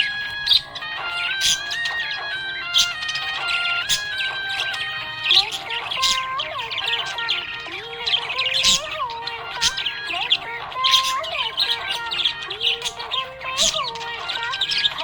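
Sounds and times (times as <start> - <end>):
budgie chirping: 0.0 - 15.0
melodic song: 0.0 - 15.0.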